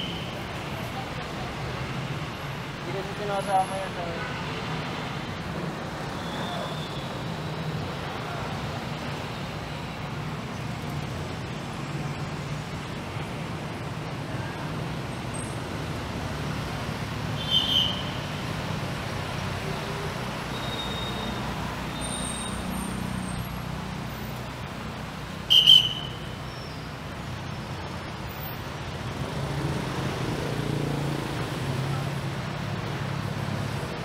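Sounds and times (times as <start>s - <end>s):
rumble of passing vehicles: 0.0s - 34.0s.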